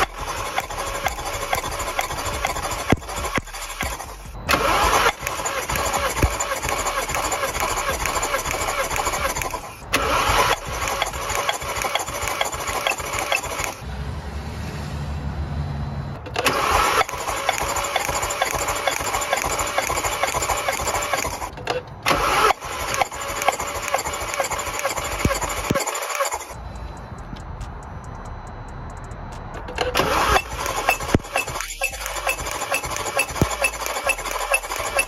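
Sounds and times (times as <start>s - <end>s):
starter motor cranking engine: 0.0s - 13.8s, 16.3s - 26.6s, 29.6s - 35.0s.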